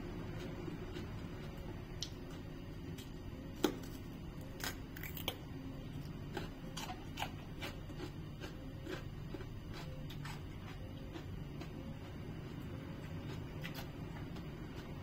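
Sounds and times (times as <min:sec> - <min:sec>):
crunchy chewing clicks: 0:00.3 - 0:15.0.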